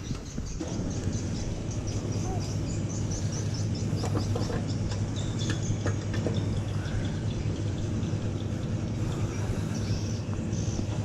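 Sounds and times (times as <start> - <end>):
birds chirping: 0.0 - 11.0
motorbike engine rumbling: 0.0 - 11.0.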